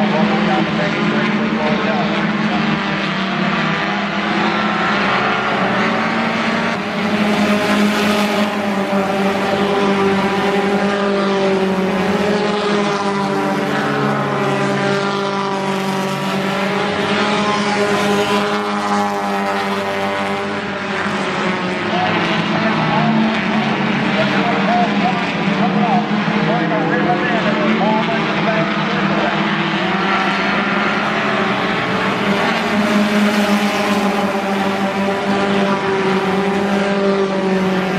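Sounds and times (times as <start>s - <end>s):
stock car engines passing: 0.0s - 37.9s.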